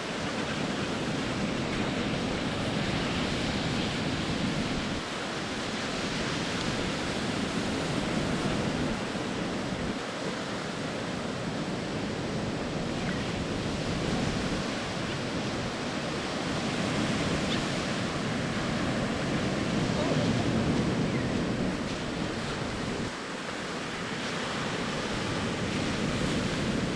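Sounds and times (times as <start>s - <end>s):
ocean surf breaking on beach: 0.0s - 26.9s.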